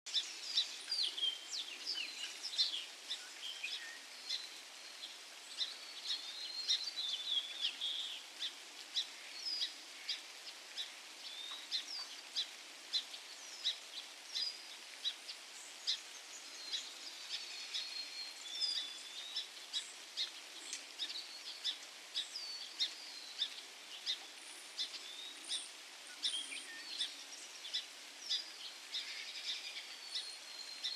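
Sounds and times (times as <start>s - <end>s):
birds chirping: 0.1s - 30.9s
faint hiss: 0.1s - 30.9s.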